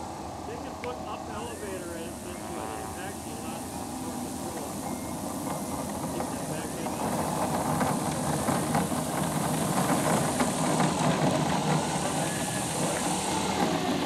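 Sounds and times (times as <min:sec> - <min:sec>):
model plane motor whirring: 0:01.4 - 0:14.0.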